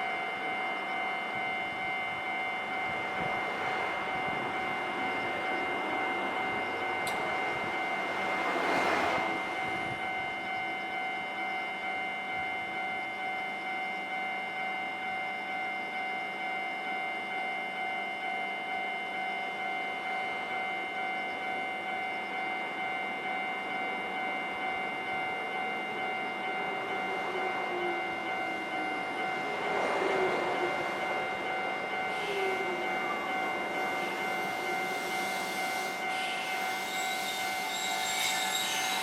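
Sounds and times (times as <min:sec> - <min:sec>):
approaching train: 0:00.0 - 0:39.0
level-crossing warning bell: 0:00.0 - 0:39.0.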